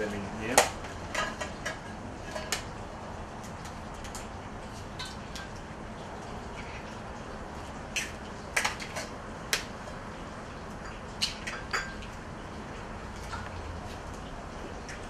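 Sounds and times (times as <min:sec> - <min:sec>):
steady low hiss: 0:00.0 - 0:14.8.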